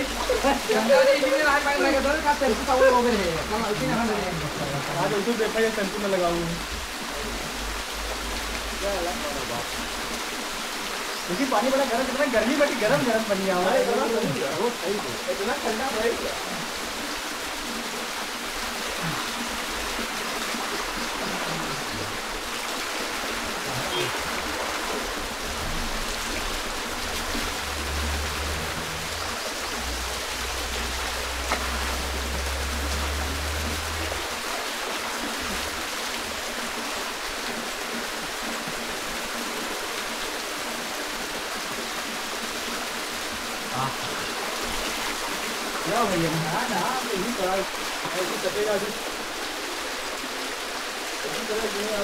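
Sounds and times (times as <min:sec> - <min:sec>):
waterfall splashing into pool: 0:00.0 - 0:52.0.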